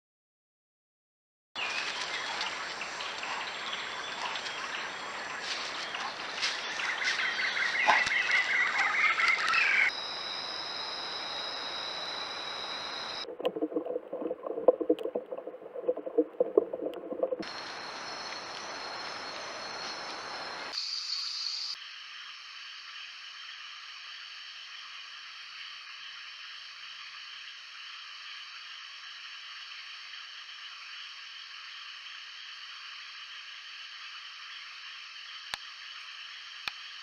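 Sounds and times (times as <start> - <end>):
insects and frogs chorus: 1.6 - 13.3, 17.4 - 37.0.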